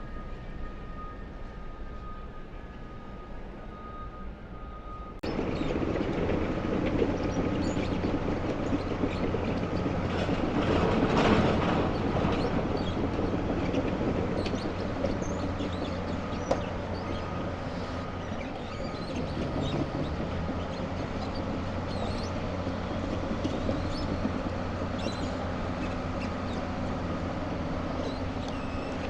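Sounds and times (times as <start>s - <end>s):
demolition machinery rumbling: 0.0s - 29.0s.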